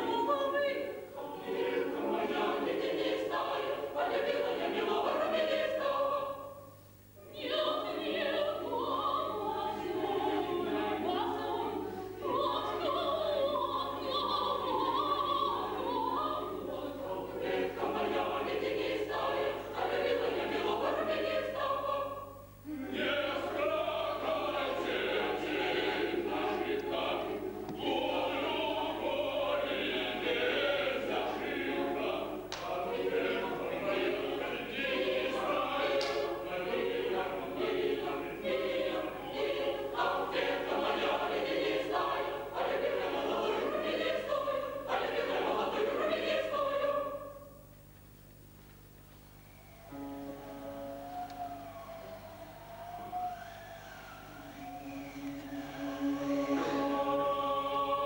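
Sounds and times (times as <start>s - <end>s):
mixed choir singing: 0.0s - 47.6s, 49.4s - 58.0s.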